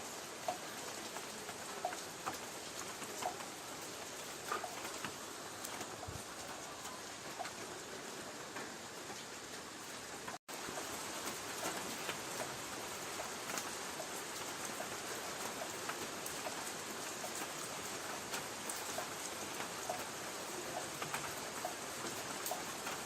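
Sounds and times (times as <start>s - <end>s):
light rain on a tin roof: 0.0s - 23.0s.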